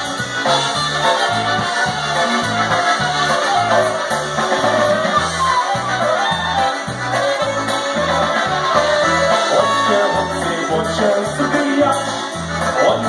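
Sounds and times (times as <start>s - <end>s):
bass oom-pah beat: 0.0s - 13.0s
polka band playing: 0.0s - 13.0s.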